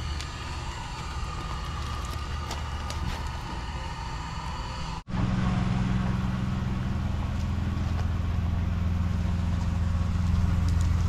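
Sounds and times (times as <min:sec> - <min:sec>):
engine idling: 0:00.0 - 0:11.0
hissy mechanical noise: 0:00.0 - 0:11.0.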